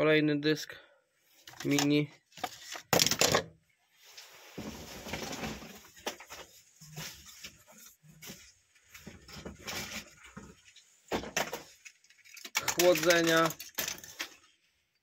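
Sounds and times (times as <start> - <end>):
rustling of circuit boards: 1.3 - 15.0.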